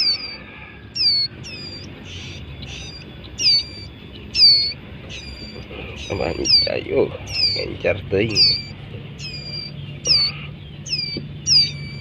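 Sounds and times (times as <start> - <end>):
bird giving squeaky calls: 0.0 - 12.0.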